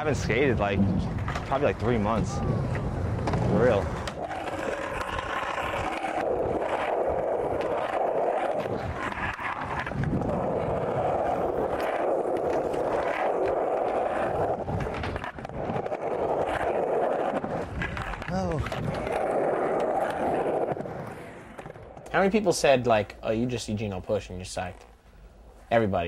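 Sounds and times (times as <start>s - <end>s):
skateboard wheels rolling: 0.0s - 26.0s.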